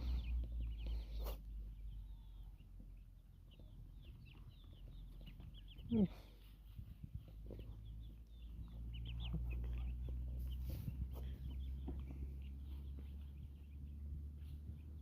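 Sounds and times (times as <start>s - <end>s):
chickens clucking and chirping: 0.0s - 15.0s
low rumble: 0.0s - 15.0s.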